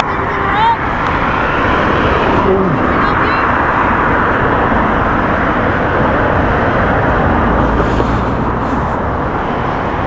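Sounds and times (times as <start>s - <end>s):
roadside traffic noise: 0.0s - 10.0s
vehicle rumble passing: 0.0s - 10.0s.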